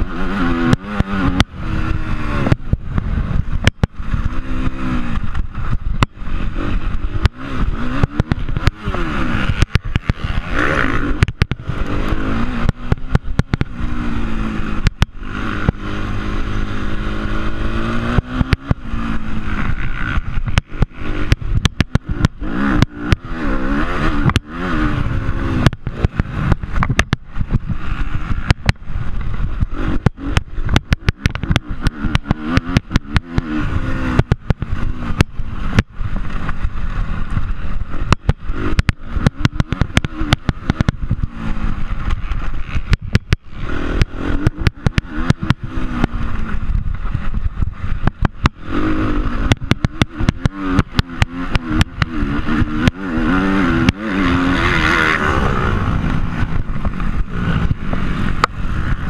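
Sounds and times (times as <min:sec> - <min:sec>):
dirt bike engine revving: 0:00.0 - 0:59.0
wind rumble on microphone: 0:00.0 - 0:59.0.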